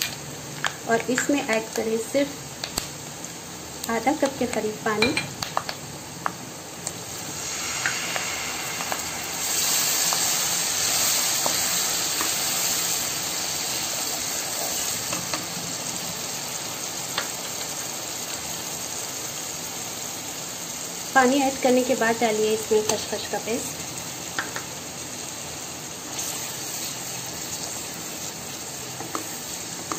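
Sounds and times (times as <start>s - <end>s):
oil and masala sizzling: 0.0s - 29.9s.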